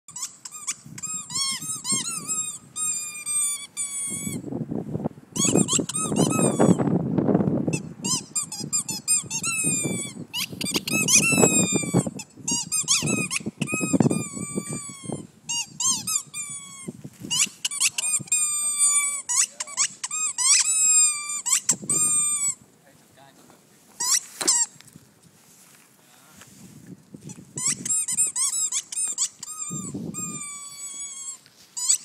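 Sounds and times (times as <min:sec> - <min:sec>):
squeaky toy squeaking: 0:00.1 - 0:04.4, 0:05.4 - 0:06.8, 0:07.7 - 0:22.6, 0:24.0 - 0:24.8, 0:27.3 - 0:32.0.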